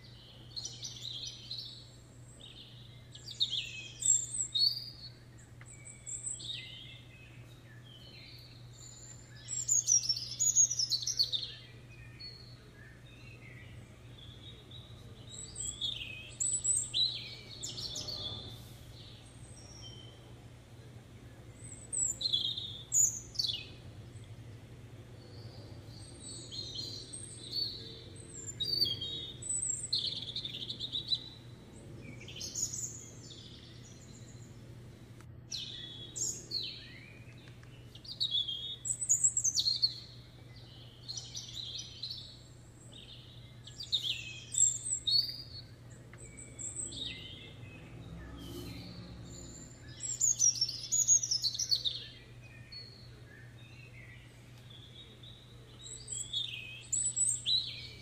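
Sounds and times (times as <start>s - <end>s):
low steady hum: 0.0s - 58.0s
songbirds chirping and singing: 0.0s - 58.0s.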